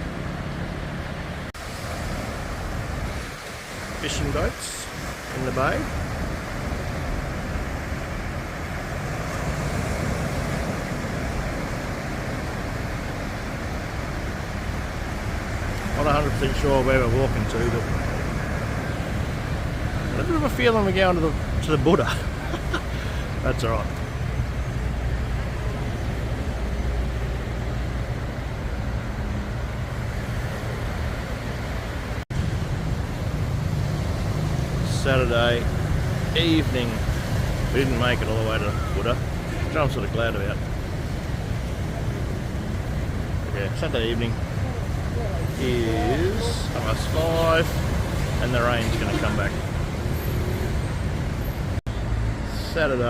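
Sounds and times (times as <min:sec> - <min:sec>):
road traffic noise: 0:00.0 - 0:53.0
sea waves: 0:00.0 - 0:53.0
wind: 0:00.0 - 0:53.0.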